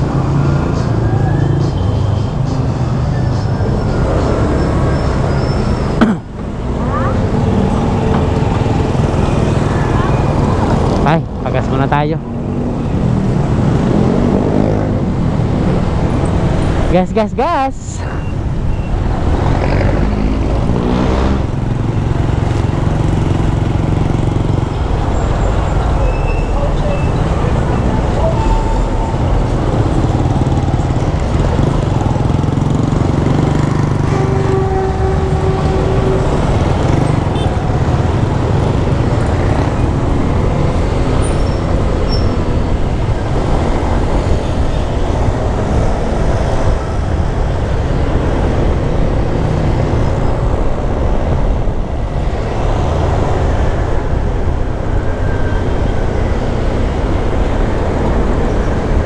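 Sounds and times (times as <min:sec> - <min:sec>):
scooter riding in traffic: 0:00.0 - 0:59.0.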